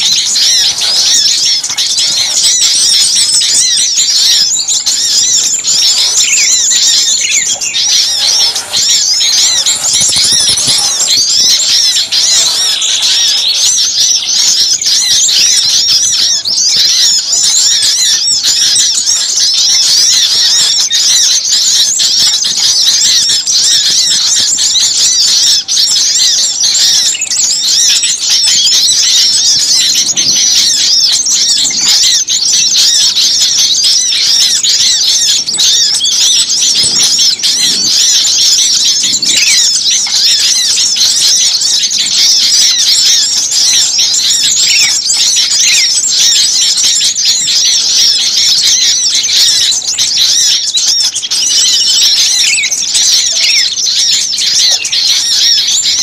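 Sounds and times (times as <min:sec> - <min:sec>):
chorus of small songbirds: 0:00.0 - 0:56.0.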